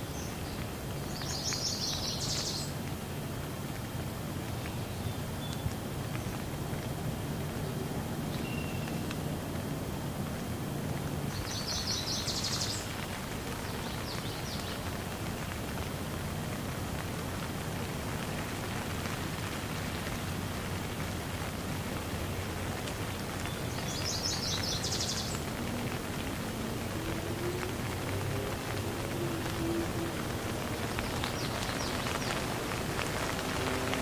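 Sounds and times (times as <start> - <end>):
rain splashing into puddles: 0.0 - 34.0.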